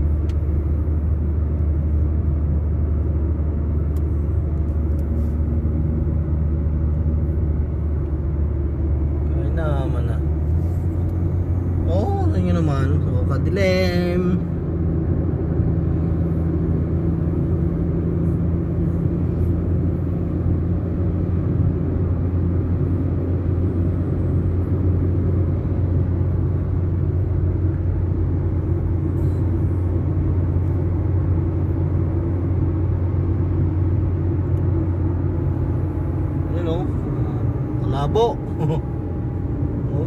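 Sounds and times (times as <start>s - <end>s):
constant low hum: 0.0s - 40.0s
vehicle engine rumbling: 0.0s - 40.0s.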